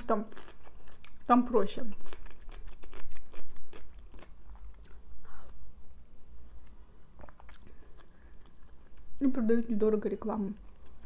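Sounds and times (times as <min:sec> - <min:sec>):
chewing soup: 0:00.0 - 0:09.3, 0:10.2 - 0:11.0.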